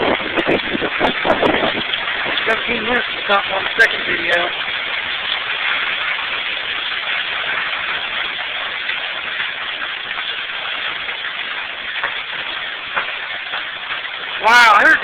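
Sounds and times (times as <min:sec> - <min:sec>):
hail and rain falling: 0:00.0 - 0:15.0.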